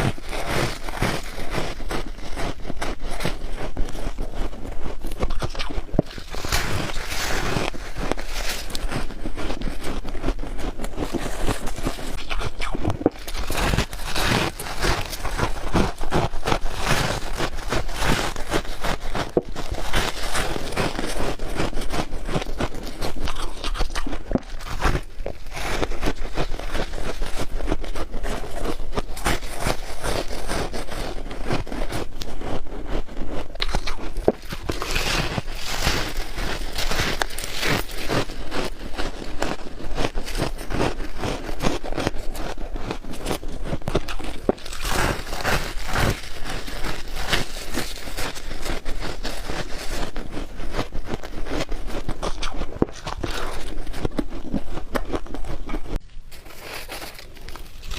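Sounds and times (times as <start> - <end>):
frost being chewed: 0.0 - 57.9.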